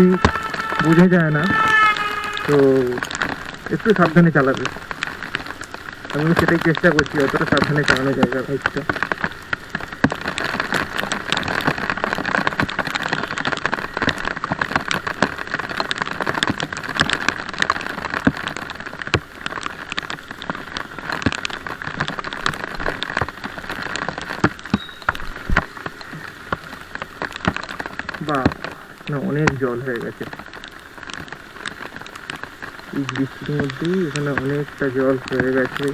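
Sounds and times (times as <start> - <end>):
heavy rain: 0.0 - 35.9.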